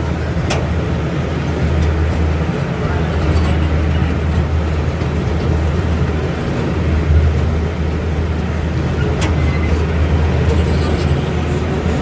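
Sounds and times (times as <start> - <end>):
miniature train rumbling on track: 0.0 - 12.0.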